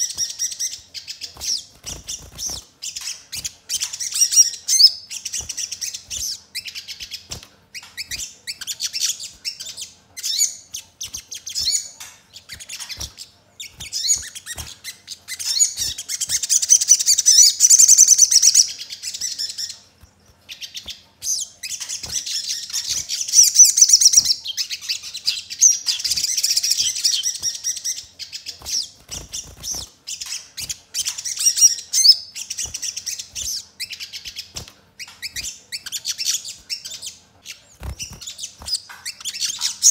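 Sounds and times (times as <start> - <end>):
bird chattering song: 0.0 - 39.9
bird chirps: 0.0 - 39.9.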